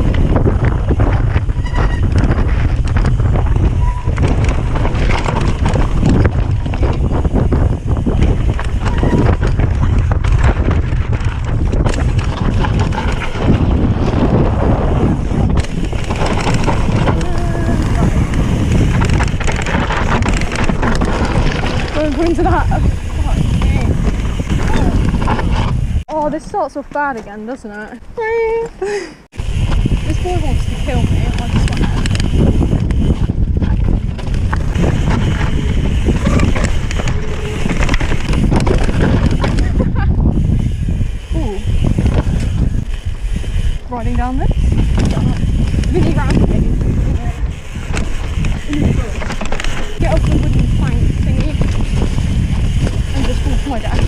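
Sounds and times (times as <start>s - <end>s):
bike tyres crunching on rocks: 0.0s - 27.7s, 29.3s - 54.0s
bike rattling over stones: 0.0s - 28.7s, 29.3s - 54.0s
wind buffeting microphone: 0.0s - 54.0s.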